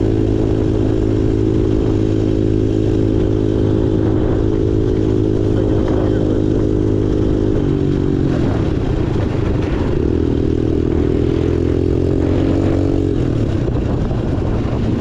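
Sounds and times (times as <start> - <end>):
small off-road bike engine running: 0.0 - 15.0.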